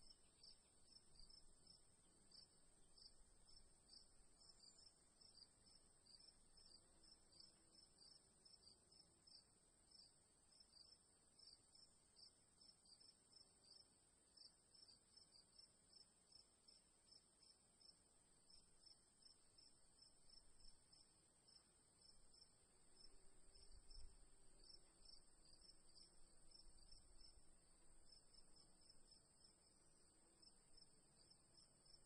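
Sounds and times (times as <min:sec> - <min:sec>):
crickets chirping: 0:00.0 - 0:13.8, 0:14.4 - 0:32.0.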